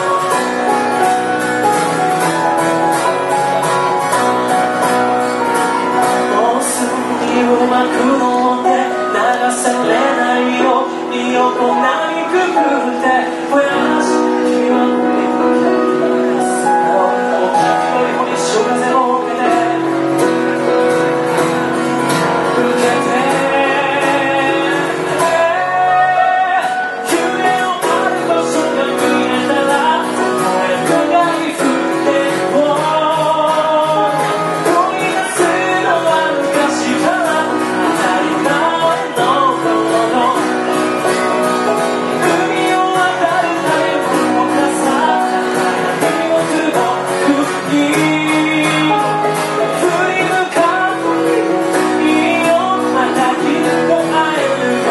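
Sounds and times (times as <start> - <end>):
live band music with singing: 0.0 - 54.9.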